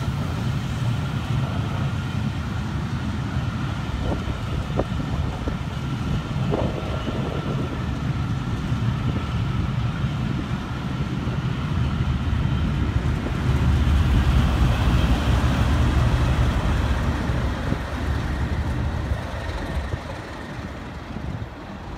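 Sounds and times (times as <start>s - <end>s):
train wheels rumbling on track: 0.0s - 21.9s.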